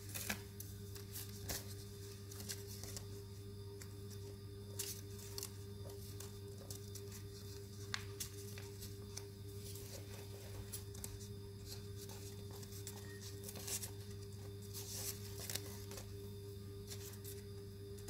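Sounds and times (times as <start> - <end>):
paper rustling against cardboard: 0.0 - 3.2, 4.2 - 16.1.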